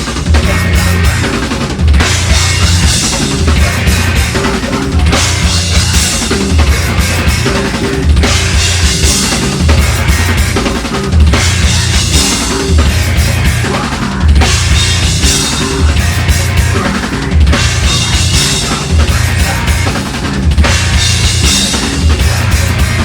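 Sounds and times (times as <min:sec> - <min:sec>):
heavy kick drum: 0:00.0 - 0:23.0
metal band playing live: 0:00.0 - 0:23.0.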